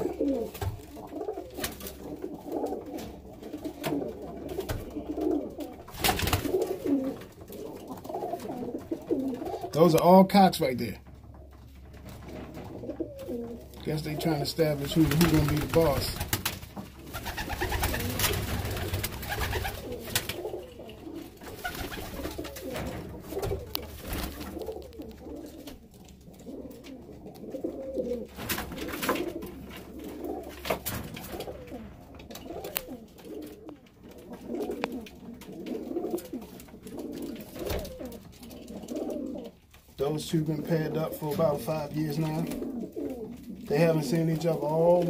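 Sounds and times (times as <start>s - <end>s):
pigeons cooing: 0.0s - 10.2s, 11.1s - 45.0s.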